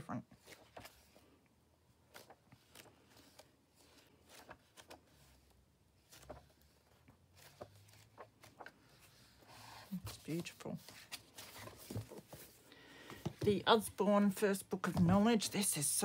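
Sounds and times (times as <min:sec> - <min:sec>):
book pages turning: 0:00.4 - 0:14.2.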